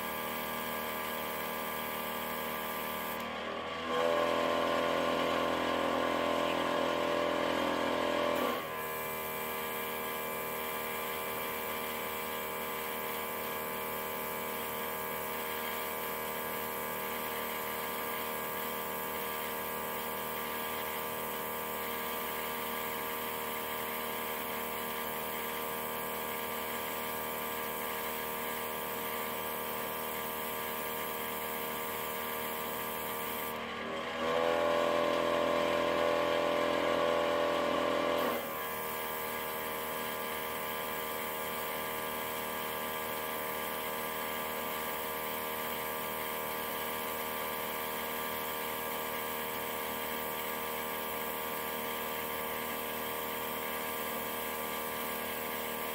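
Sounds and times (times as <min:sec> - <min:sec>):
airbrush compressor humming: 0:00.0 - 0:48.4.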